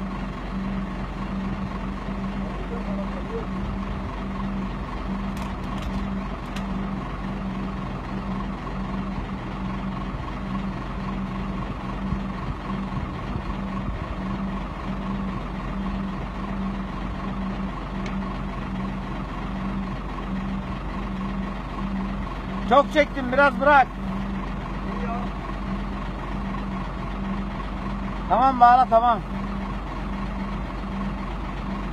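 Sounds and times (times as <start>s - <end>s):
truck engine running steadily: 0.0s - 31.9s.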